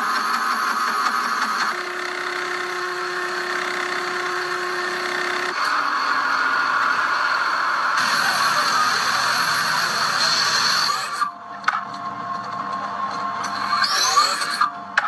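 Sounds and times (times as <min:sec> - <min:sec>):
industrial machinery running: 0:00.0 - 0:15.0.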